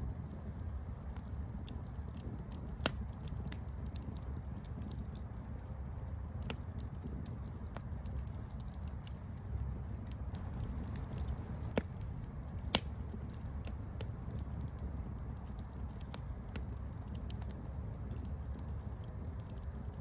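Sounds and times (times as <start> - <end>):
campfire crackling and popping: 0.0 - 20.0
loud fire snaps: 0.0 - 20.0.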